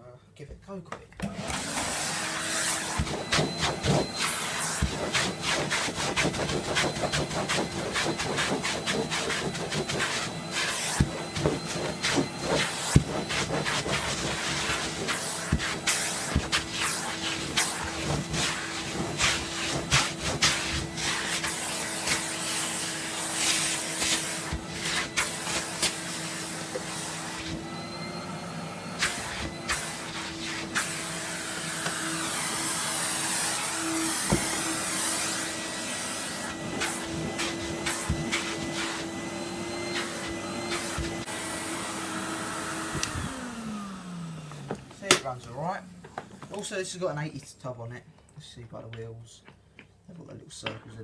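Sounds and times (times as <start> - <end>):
vacuum cleaner running: 1.2 - 46.5.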